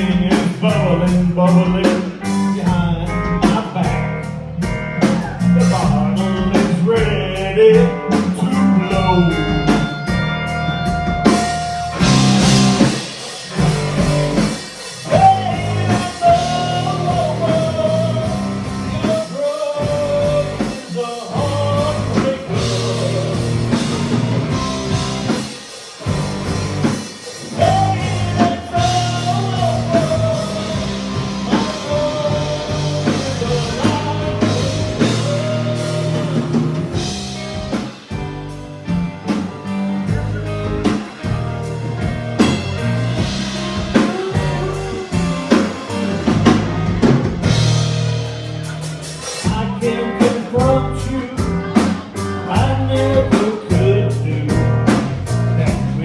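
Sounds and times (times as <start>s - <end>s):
rock song: 0.0s - 56.0s
bending lead guitar melody: 1.6s - 19.2s, 21.4s - 55.2s.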